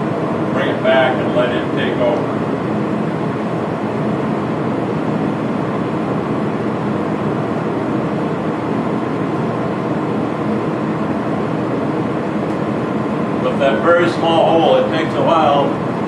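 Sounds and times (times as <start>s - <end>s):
faint hum: 0.0s - 16.0s
fan rushing noise: 0.0s - 16.0s.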